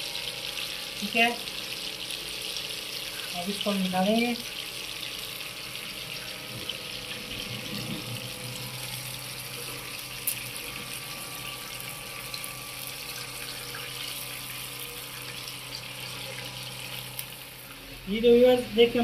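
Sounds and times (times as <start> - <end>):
oil sizzling in frying pan: 0.0 - 18.1.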